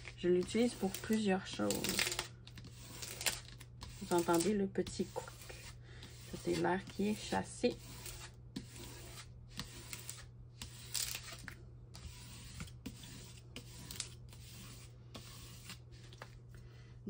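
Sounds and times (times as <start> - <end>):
plastic scraper on film: 0.0 - 16.2.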